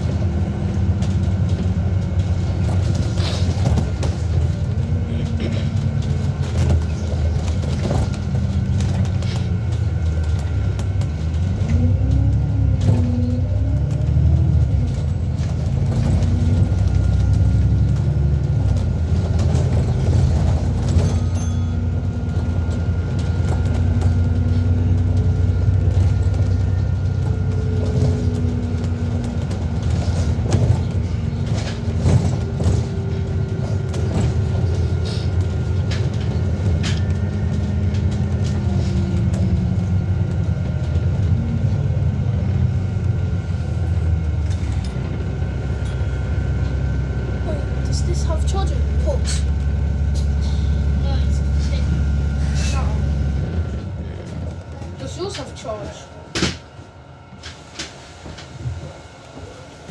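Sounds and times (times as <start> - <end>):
bus engine rumble: 0.0 - 59.9.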